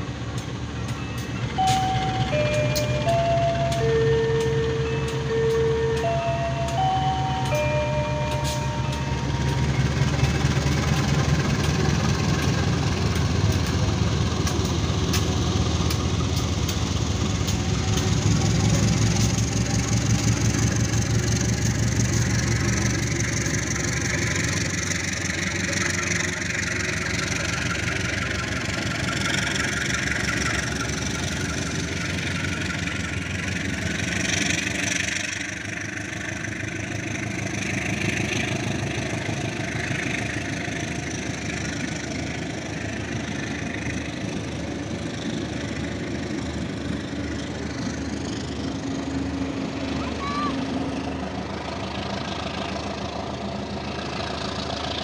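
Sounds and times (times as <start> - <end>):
diesel locomotive engine drone: 0.0 - 55.0
train noise: 0.0 - 55.0.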